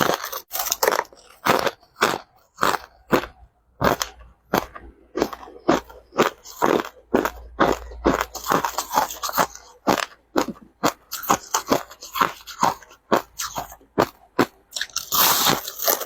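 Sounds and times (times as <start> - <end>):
crushed ice crunching: 0.0 - 3.2, 3.8 - 16.0.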